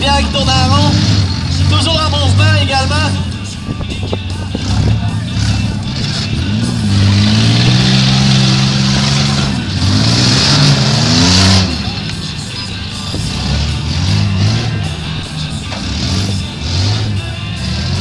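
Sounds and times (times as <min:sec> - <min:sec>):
car engine revving hard: 0:00.0 - 0:03.4, 0:04.5 - 0:12.5, 0:13.1 - 0:18.0
music from loudspeakers: 0:00.0 - 0:18.0.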